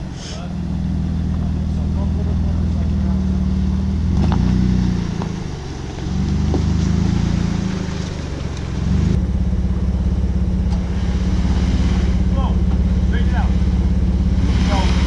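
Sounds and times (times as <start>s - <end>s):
vehicle engine at low revs: 0.0s - 15.0s.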